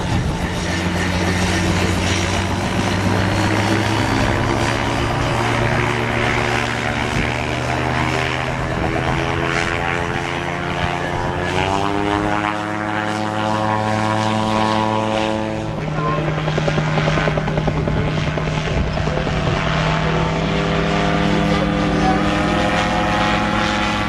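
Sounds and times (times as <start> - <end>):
propeller engine running: 0.0 - 24.0.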